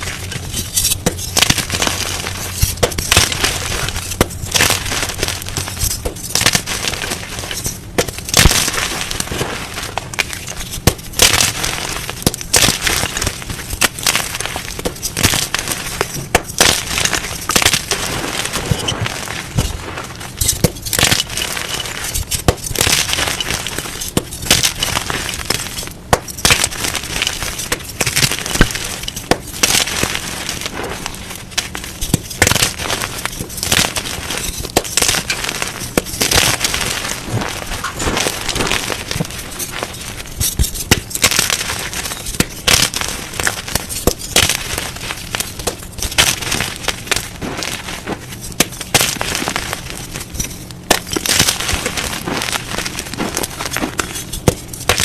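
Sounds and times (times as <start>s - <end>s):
chalk crunching and crackling: 0.0s - 55.0s.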